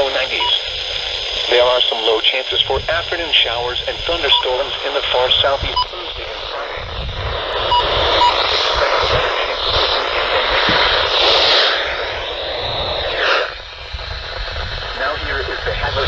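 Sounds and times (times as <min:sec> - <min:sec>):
radio static hissing: 0:00.0 - 0:16.0.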